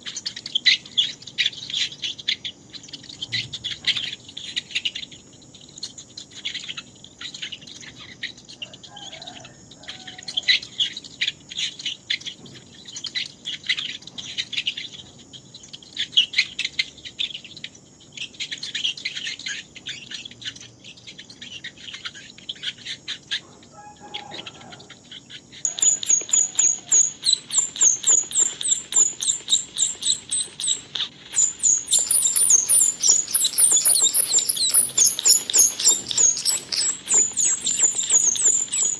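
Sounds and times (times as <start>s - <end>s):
mouse squeaking: 6.1s - 38.9s.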